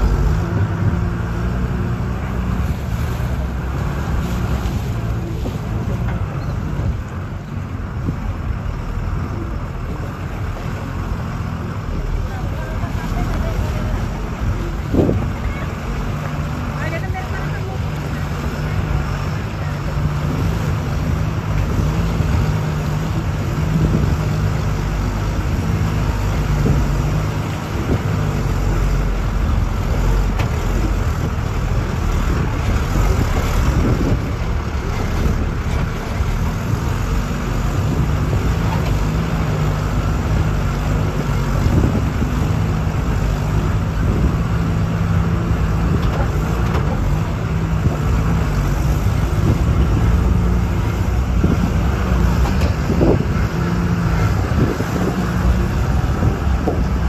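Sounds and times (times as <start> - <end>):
engine drone: 0.0 - 57.0
road rumble: 0.0 - 57.0.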